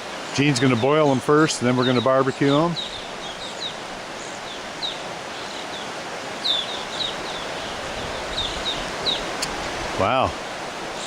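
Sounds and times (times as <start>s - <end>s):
steady background hiss: 0.0s - 11.0s
birds chirping: 0.1s - 11.0s.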